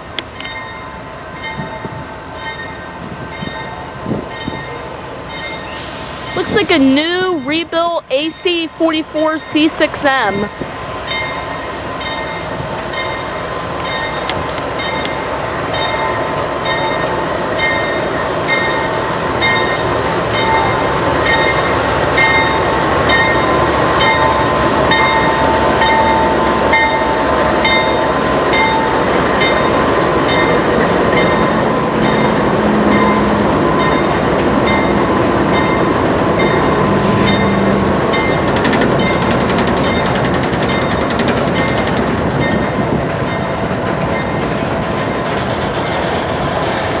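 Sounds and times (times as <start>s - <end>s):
rail noise: 0.0s - 47.0s
locomotive bell ringing: 6.4s - 44.6s.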